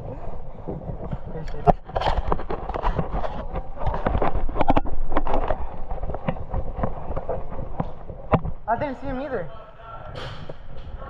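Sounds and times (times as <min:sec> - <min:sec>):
knocks and rustles: 0:00.0 - 0:09.2, 0:10.1 - 0:11.0.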